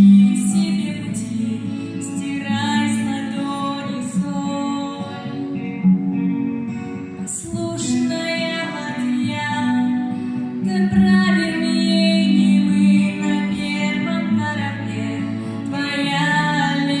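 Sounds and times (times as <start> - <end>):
woman singing slow song: 0.0 - 5.8, 7.2 - 17.0
acoustic guitar: 0.0 - 17.0.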